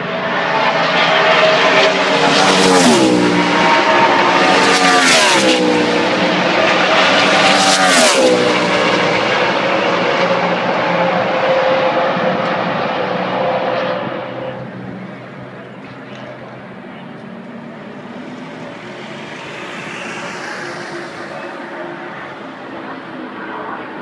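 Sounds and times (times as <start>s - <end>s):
race car engines passing by: 0.0s - 24.0s.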